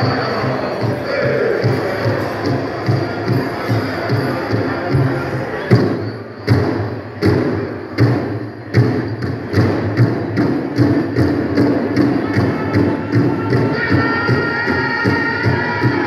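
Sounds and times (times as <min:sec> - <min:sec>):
drum beaten for a dance song: 0:00.0 - 0:16.0.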